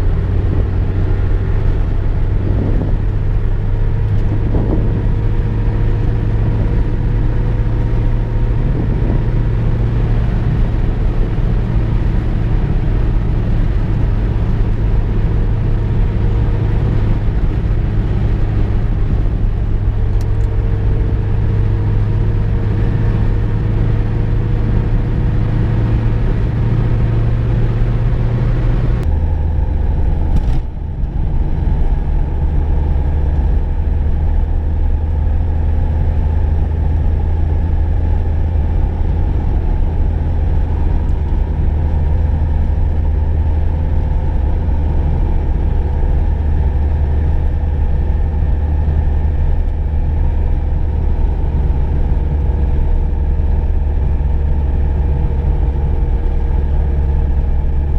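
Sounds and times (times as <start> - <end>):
car engine drone: 0.0 - 57.9
road rumble: 0.0 - 57.9.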